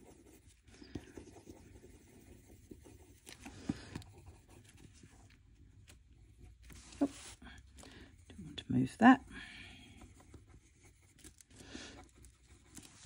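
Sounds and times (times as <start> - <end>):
pencil scratching on paper: 0.0 - 5.2, 6.6 - 13.0.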